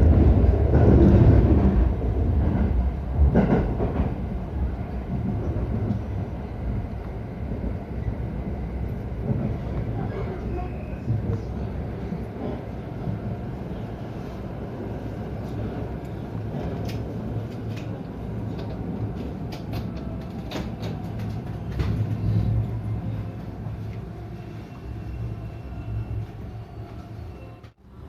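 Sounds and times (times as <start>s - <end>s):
train interior low hum: 0.0s - 28.0s.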